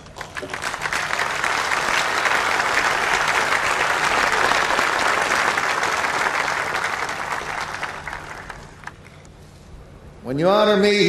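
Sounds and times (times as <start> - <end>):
large audience applauding: 0.0 - 9.0.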